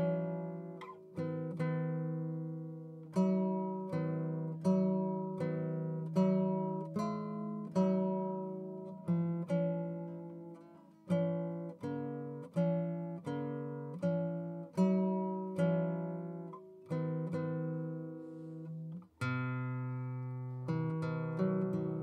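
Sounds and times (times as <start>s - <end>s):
acoustic guitar plucking: 0.0s - 22.0s.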